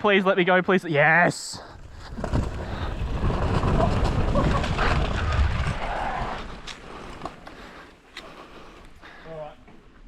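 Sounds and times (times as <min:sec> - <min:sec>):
bicycle tyres rolling on dirt: 0:01.6 - 0:10.0.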